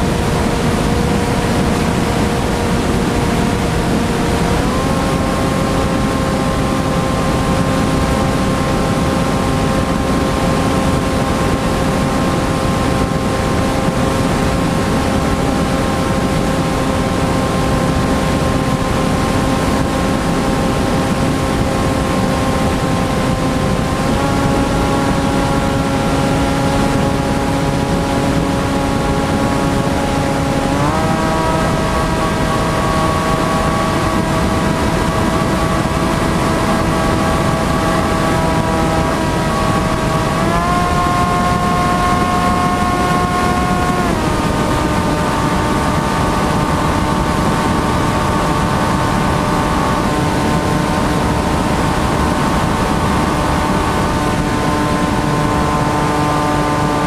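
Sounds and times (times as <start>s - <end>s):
electric motor whine: 0.0s - 57.0s
wind rushing on microphone: 0.0s - 57.0s.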